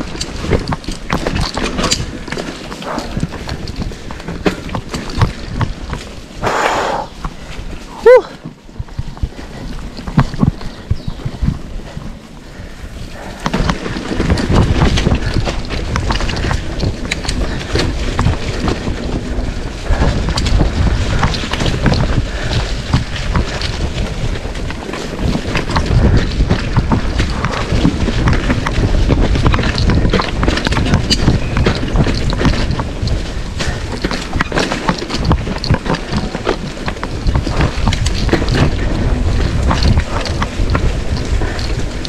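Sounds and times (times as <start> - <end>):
bike rattling over rough ground: 0.0 - 42.0
wind buffeting microphone: 0.0 - 42.0.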